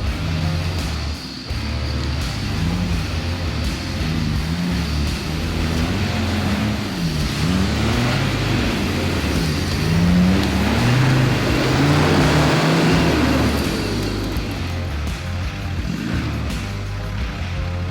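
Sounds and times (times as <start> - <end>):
truck engine revving: 0.0 - 17.9.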